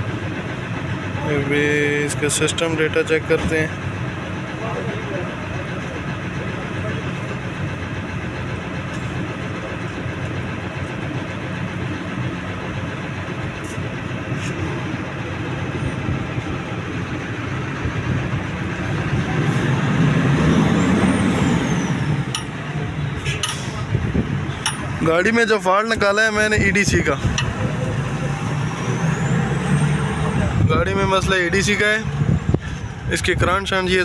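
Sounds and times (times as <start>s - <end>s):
heavy vehicle engine running: 0.0s - 34.0s.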